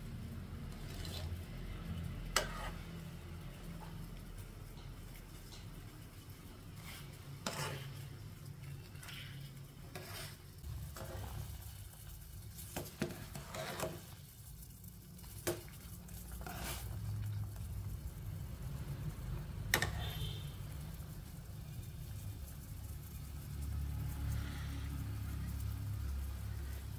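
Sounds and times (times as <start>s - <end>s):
ladle stirring and scraping a pot: 0.2s - 26.9s.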